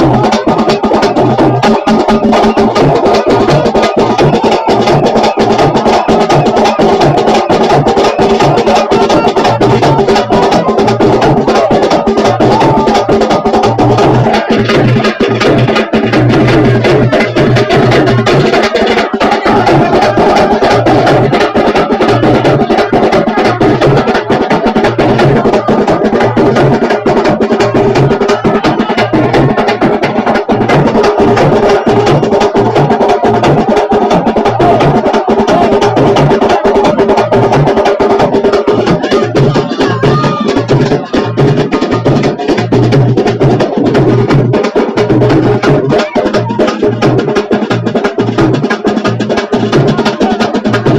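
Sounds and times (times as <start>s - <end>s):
fast drum strokes: 0.0s - 50.9s.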